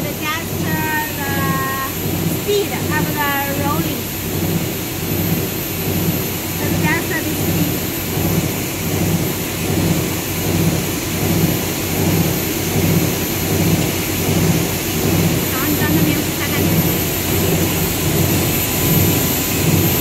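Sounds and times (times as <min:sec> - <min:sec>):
low pulsing throb: 0:00.0 - 0:20.0
machinery roaring: 0:00.0 - 0:20.0.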